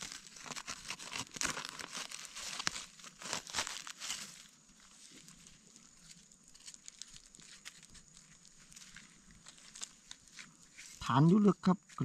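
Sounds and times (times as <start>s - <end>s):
dry leaves crackling and rustling: 0.0s - 11.2s.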